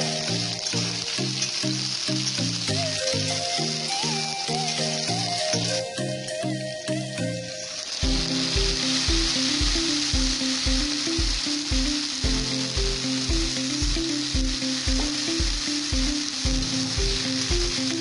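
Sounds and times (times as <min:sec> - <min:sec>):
background music with steady beat: 0:00.0 - 0:18.0
potatoes sizzling in hot oil: 0:00.0 - 0:18.0.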